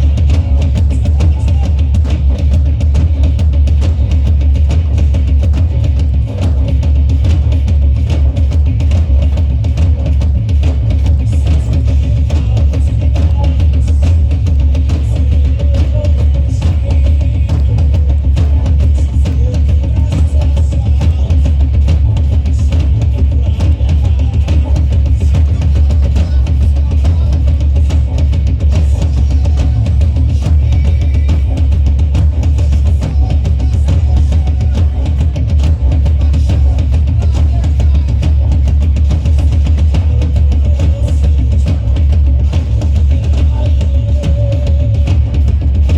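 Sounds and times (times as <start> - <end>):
loud instrumental band music: 0.0 - 45.9.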